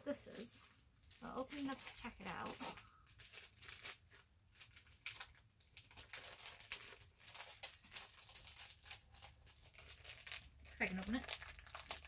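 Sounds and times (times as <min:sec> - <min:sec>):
packaging crinkling and tearing: 0:00.3 - 0:12.0.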